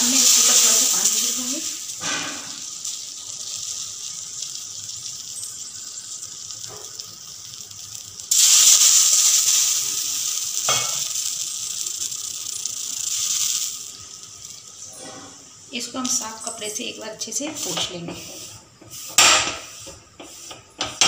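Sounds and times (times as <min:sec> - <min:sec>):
water sizzling on hot iron: 0:00.0 - 0:21.0.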